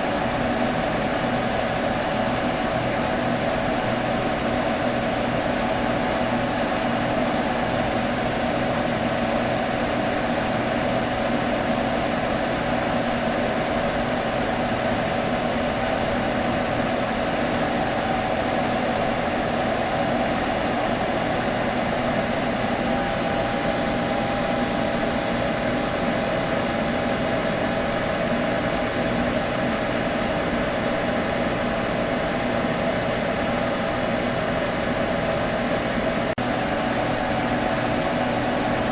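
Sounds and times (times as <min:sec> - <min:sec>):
computer cooling fans humming: 0:00.0 - 0:38.9.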